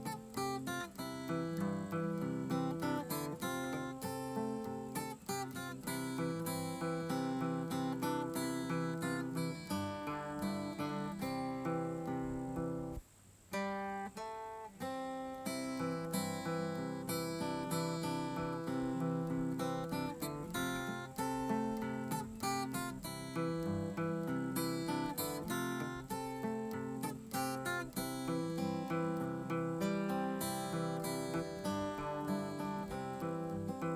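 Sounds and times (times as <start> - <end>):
acoustic guitar music: 0.0 - 33.9.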